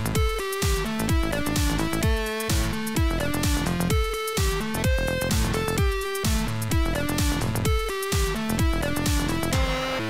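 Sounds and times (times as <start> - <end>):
kick drum steady beat: 0.0 - 9.8
electronic dance music: 0.0 - 10.0.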